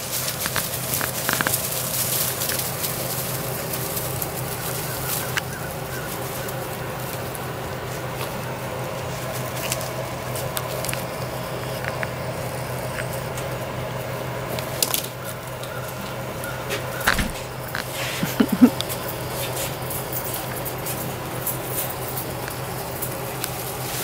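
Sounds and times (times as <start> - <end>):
low hum: 0.0 - 24.0
paws rustling on wood-chip mulch: 0.0 - 24.0.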